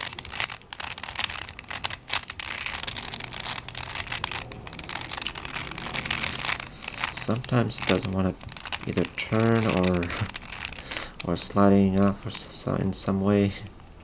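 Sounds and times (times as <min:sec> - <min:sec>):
puzzle cube clicking and scraping: 0:00.0 - 0:14.0.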